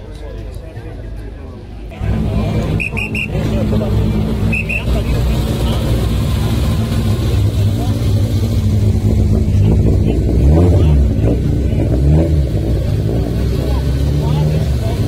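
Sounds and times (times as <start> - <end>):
car engine running low: 1.9 - 15.0
engine throttle blips: 1.9 - 15.0.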